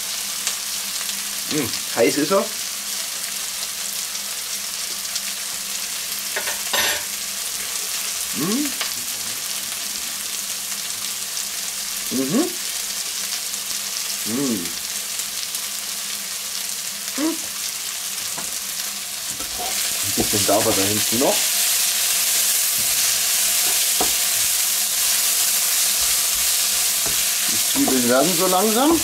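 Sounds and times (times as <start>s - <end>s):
onions sizzling in a wok: 0.0s - 29.0s.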